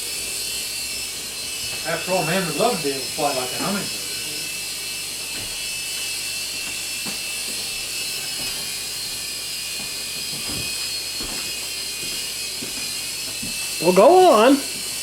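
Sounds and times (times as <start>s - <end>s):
toy helicopter whirring: 0.0s - 15.0s.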